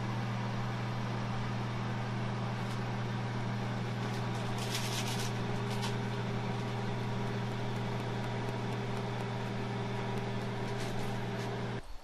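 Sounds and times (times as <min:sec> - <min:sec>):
microwave oven humming: 0:00.0 - 0:11.8.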